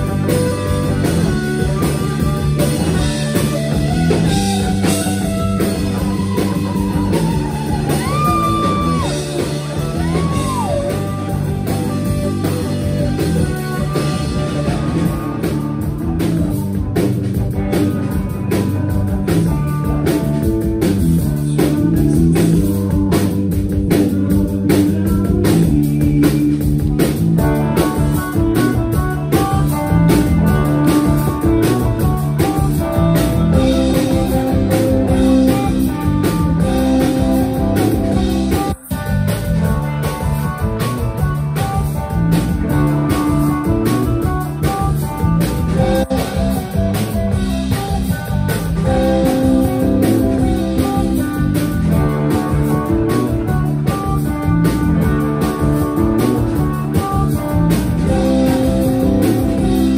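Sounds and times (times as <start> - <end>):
bass guitar: 0.0 - 59.9
drum kit: 0.0 - 59.9
electric guitar lines: 0.0 - 59.9.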